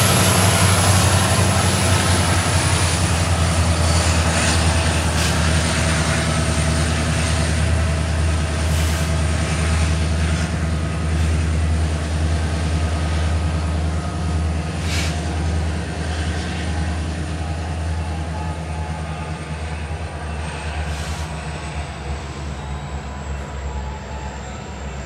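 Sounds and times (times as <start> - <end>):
diesel locomotive engine drone: 0.0 - 25.0
train rumble: 0.0 - 25.0.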